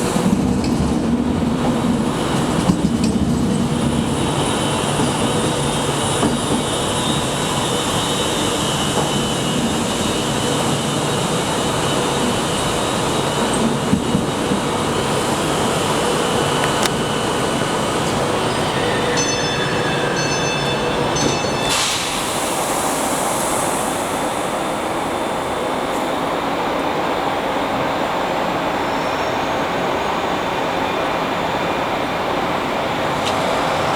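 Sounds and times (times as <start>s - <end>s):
train rumble and hiss: 0.0s - 33.9s.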